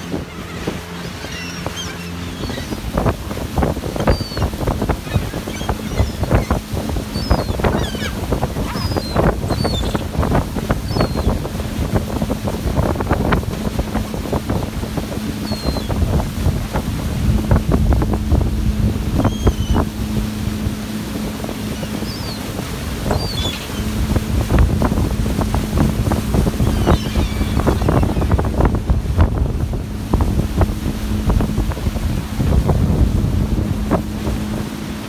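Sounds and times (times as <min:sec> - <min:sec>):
gulls crying: 0:00.0 - 0:35.0
low boat engine hum: 0:00.0 - 0:35.0
wind buffeting microphone: 0:00.0 - 0:35.0.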